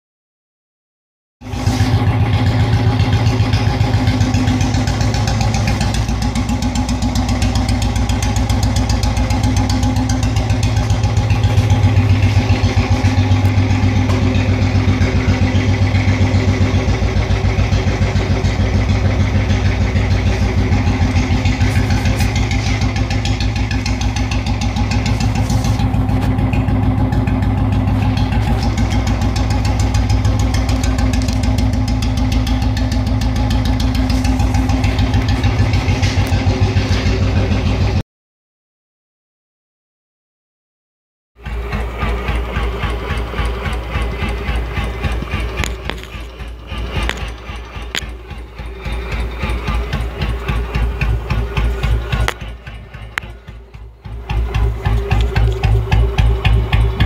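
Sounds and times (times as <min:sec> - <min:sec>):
motorcycle engine idling: 0:01.4 - 0:38.0, 0:41.4 - 0:57.0.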